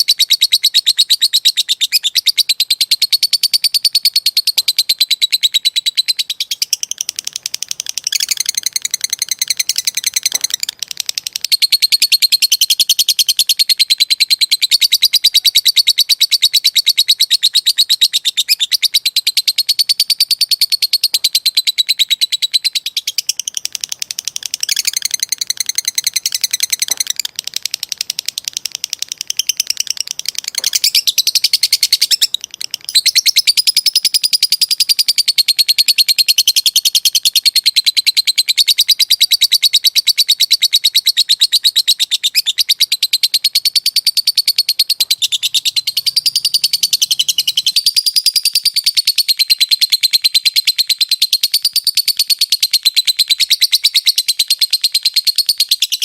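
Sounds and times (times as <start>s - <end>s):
lovebird chattering trill: 0.0s - 56.0s.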